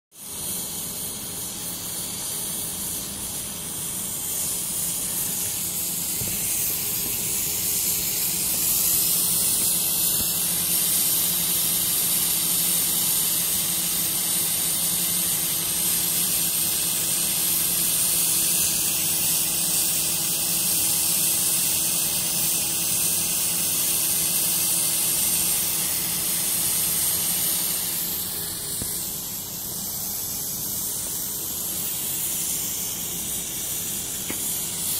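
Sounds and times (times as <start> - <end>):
cutting torch hissing: 0.1 - 34.9.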